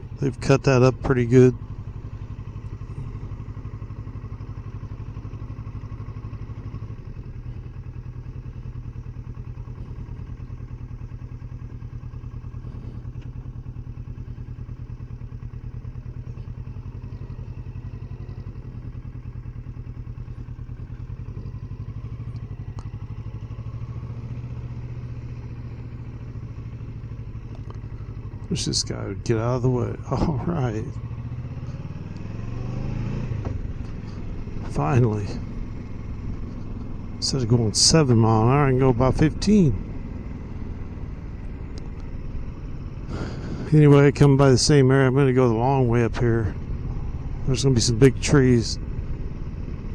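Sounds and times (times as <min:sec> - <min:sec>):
motorcycle engine at low revs: 0:00.0 - 0:49.9.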